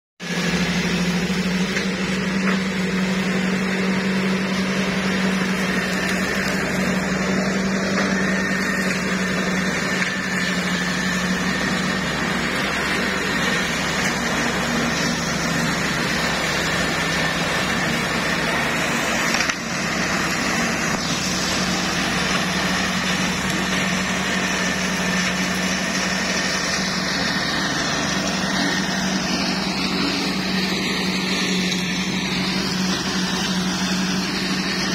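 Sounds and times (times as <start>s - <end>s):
flail mower engine running: 0.2s - 34.9s.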